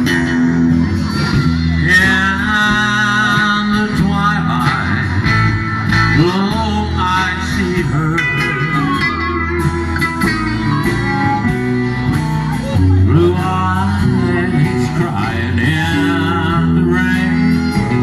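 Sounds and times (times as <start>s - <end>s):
person singing: 0.0s - 5.4s, 6.0s - 18.0s
acoustic guitar: 0.0s - 18.0s
drums: 0.0s - 18.0s
electric guitar: 0.0s - 18.0s.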